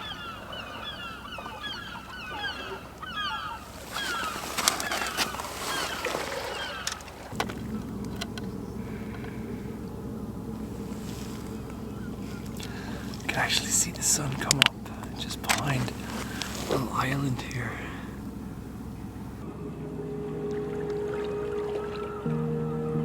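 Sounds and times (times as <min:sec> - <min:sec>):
flock of birds calling: 0:00.0 - 0:23.0
low steady rumble: 0:00.0 - 0:23.0.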